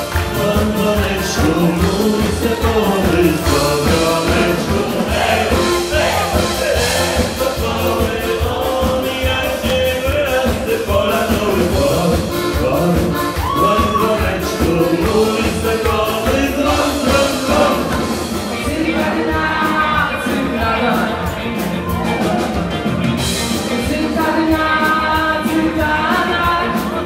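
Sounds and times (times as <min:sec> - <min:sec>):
upbeat dance music with singing: 0:00.0 - 0:22.6.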